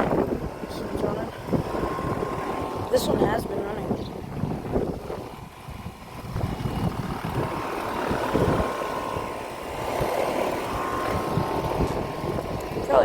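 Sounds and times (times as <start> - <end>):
air conditioner unit humming: 0.0 - 13.0
wind gusting on microphone: 0.0 - 13.0.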